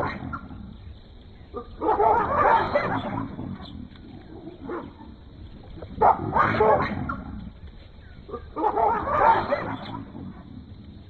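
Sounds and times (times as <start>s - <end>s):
animal calls: 1.4s - 7.6s, 8.2s - 11.0s.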